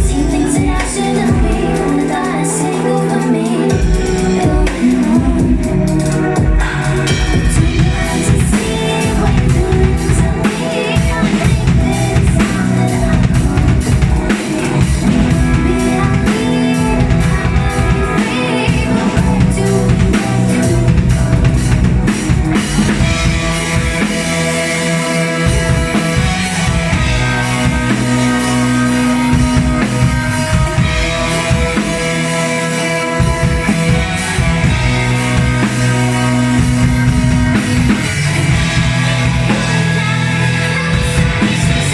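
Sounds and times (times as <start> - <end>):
drum kit: 0.0 - 41.9
live band playing: 0.0 - 41.9.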